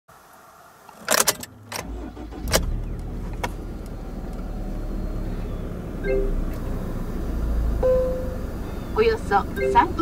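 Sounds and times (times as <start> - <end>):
car engine starting and idling: 0.1 - 10.0.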